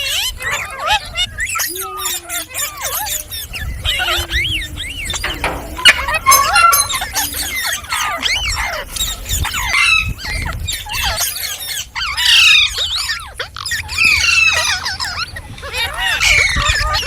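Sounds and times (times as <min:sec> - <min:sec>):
parakeet chattering and squawking: 0:00.0 - 0:17.0.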